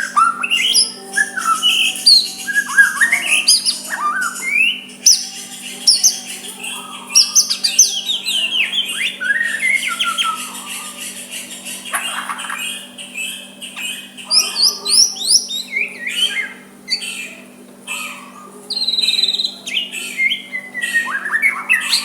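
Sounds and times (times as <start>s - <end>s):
bird singing whistled song: 0.0s - 11.0s, 11.9s - 22.0s
faint steady hum: 0.0s - 22.0s.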